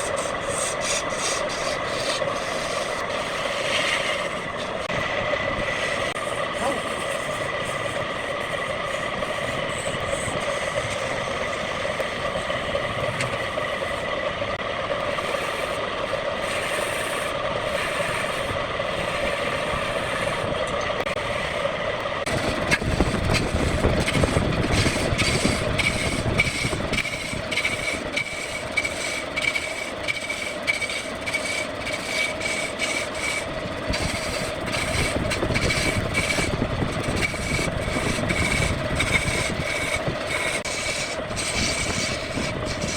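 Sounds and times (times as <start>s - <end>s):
tool scraping spinning wood: 0.0s - 42.9s
wood lathe motor hum: 0.0s - 42.9s.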